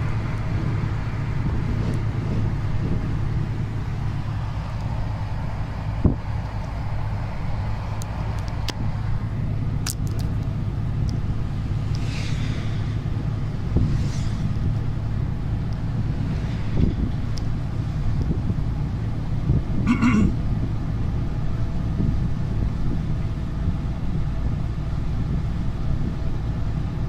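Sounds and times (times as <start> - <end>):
diesel truck engine running: 0.0 - 27.0
road noise: 0.0 - 27.0.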